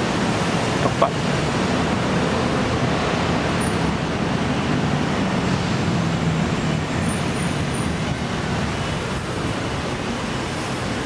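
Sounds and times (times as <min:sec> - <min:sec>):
road traffic rushing: 0:00.0 - 0:11.0.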